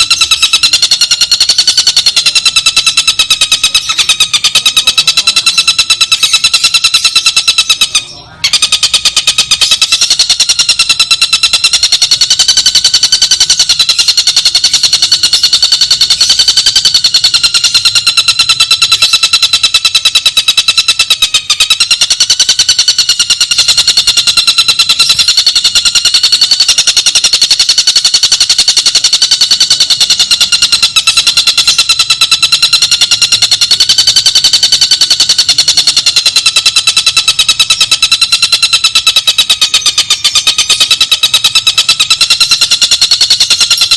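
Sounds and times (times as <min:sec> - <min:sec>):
kingfisher trill: 0:00.0 - 0:43.9.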